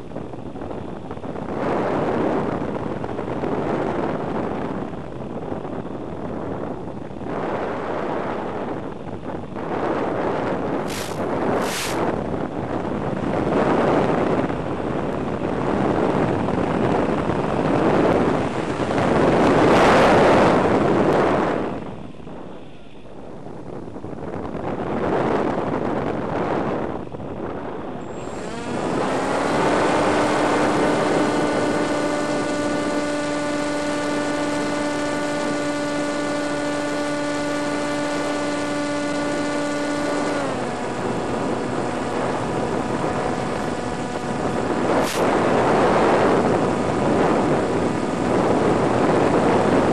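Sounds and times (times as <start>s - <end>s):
electric motor and propeller humming: 0.0s - 49.9s
wind rushing over microphone: 0.0s - 49.9s.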